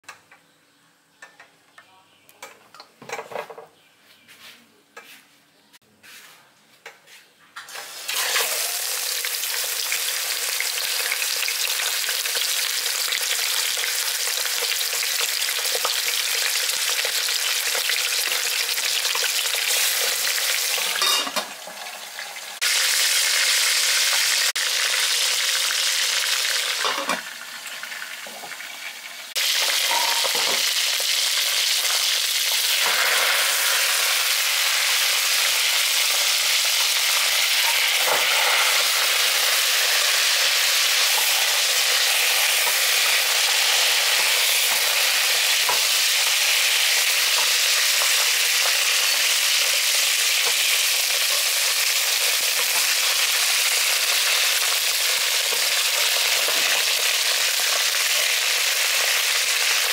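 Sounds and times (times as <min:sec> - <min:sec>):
chicken sizzling in hot oil: 0:07.7 - 0:59.9.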